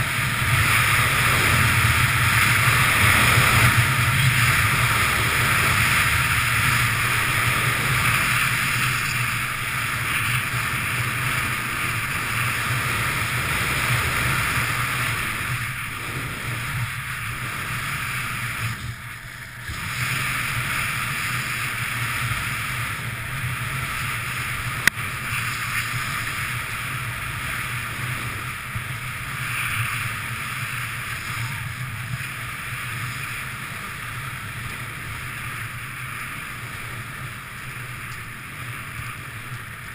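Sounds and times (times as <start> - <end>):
skis sliding on snow: 0.0 - 39.9
wind on microphone: 0.0 - 39.9.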